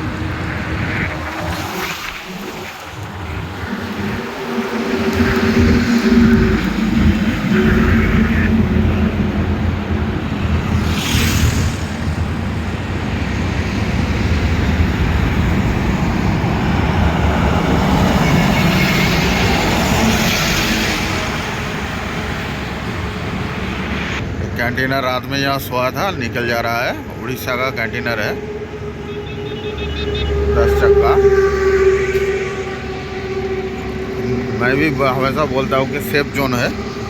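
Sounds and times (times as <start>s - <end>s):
truck engine rumble: 0.0s - 37.0s
tyre and road noise: 0.0s - 37.0s.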